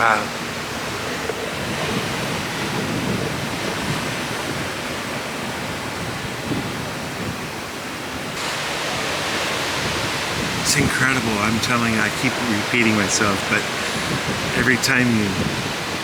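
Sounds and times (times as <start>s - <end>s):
wind and water rushing: 0.0s - 16.0s
wind buffeting microphone: 0.0s - 16.0s.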